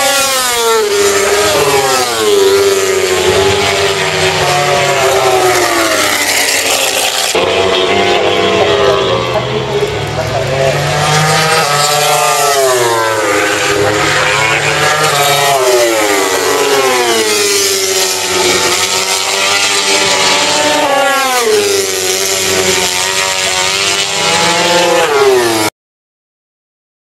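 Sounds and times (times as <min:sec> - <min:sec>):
motorcycle engines revving past: 0:00.0 - 0:25.7.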